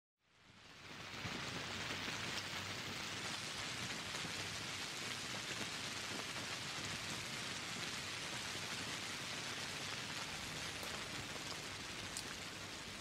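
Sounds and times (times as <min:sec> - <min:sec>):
steady rain falling: 0:00.3 - 0:13.0.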